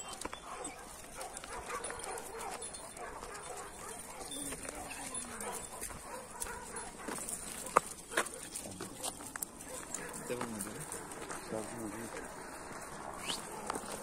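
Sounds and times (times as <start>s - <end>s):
dogs whining and barking: 0.0s - 11.3s, 12.8s - 14.0s.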